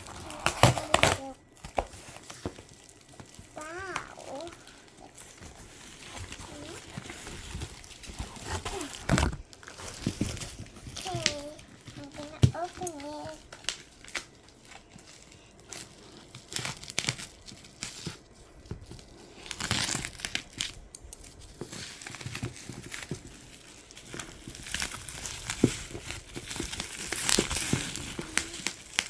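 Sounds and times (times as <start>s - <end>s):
packaging crinkling and tearing: 0.0s - 29.0s.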